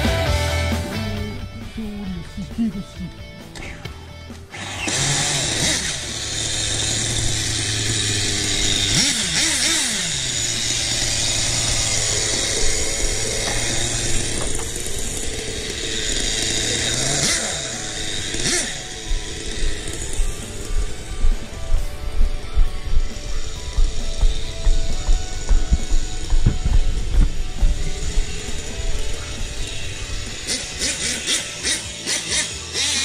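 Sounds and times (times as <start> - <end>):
engine throttle blips: 2.3 - 33.0
small model engine idling: 4.5 - 33.0.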